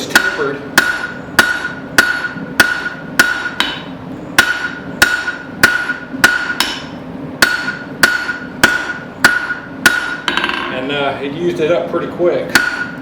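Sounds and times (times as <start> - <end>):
hammer striking steel on anvil: 0.0 - 10.8, 12.5 - 13.0.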